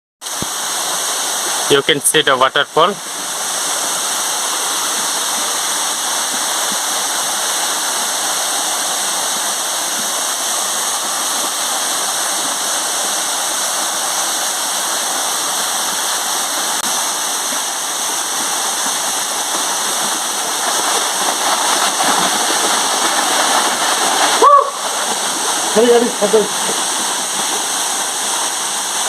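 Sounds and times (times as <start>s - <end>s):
waterfall roaring: 0.3s - 29.0s.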